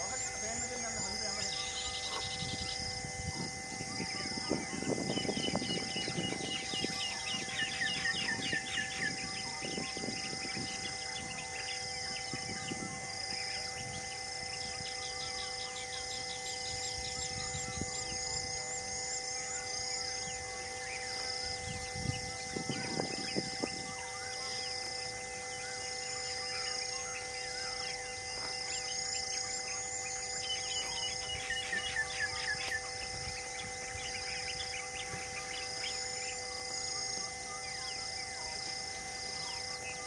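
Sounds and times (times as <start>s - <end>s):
wild birds chirping and calling: 0.0s - 40.0s.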